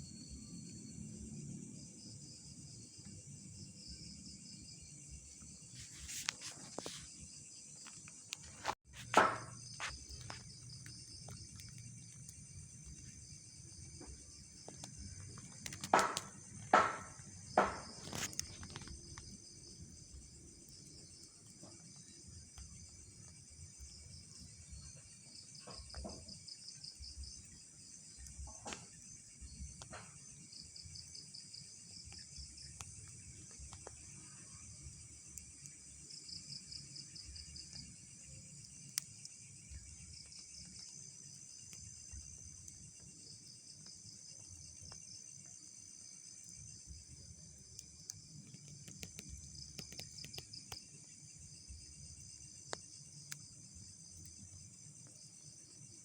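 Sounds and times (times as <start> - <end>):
crickets trilling and chirping: 0.0 - 56.0.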